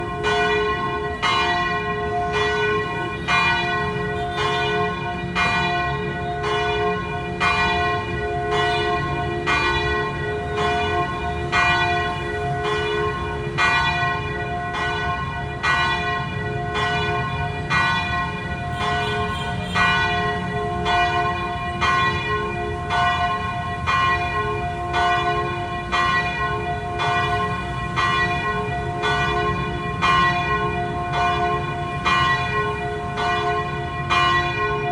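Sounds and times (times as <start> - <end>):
church bells ringing: 0.0 - 34.9.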